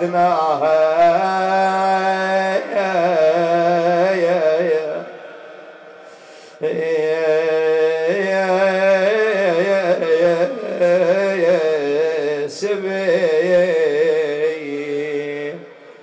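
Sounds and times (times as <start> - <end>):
man chanting a lament: 0.0 - 16.0.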